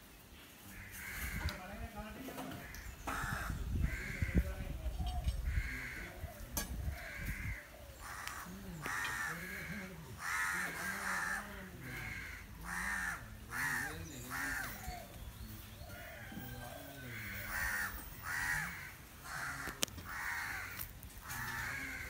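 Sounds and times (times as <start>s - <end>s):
crows cawing: 0.7s - 15.1s, 15.8s - 22.0s.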